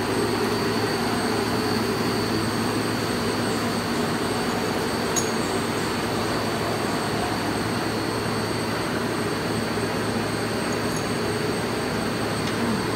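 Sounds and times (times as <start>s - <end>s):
machinery drone with hum: 0.0s - 12.9s.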